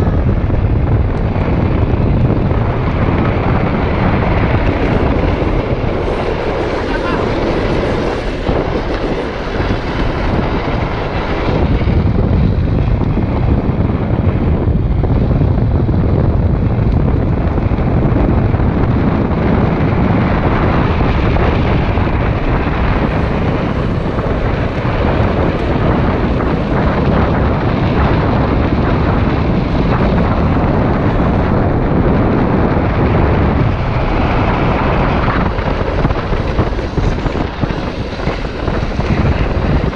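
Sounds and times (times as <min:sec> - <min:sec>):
wheels rolling on asphalt: 0:00.0 - 0:39.9
wind buffeting microphone: 0:00.0 - 0:39.9.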